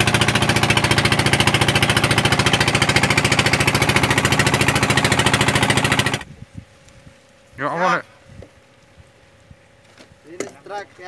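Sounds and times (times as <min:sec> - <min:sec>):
boat engine running: 0:00.0 - 0:09.9.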